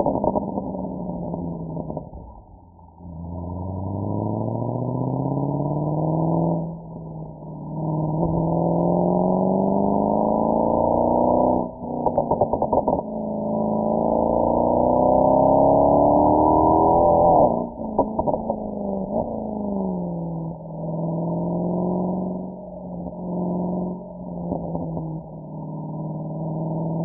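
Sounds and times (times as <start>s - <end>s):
car exhaust accelerating: 0.0s - 27.0s.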